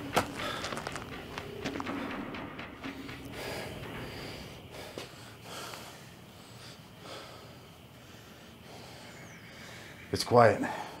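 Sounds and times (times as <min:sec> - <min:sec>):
person breathing hard: 0:00.0 - 0:10.0, 0:10.6 - 0:11.0.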